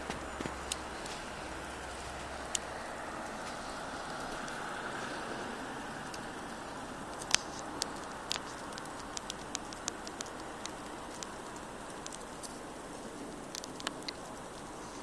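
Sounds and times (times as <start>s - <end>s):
snow ticks pattering: 0.0s - 15.0s
steady outdoor hiss: 0.0s - 15.0s.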